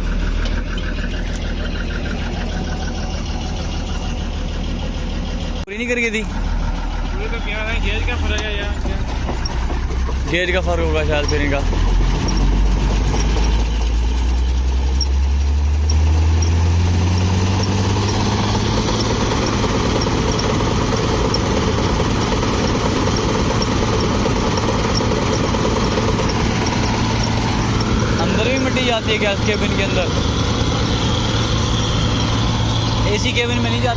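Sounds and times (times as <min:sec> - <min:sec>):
harvester engine revving: 0:00.0 - 0:33.9.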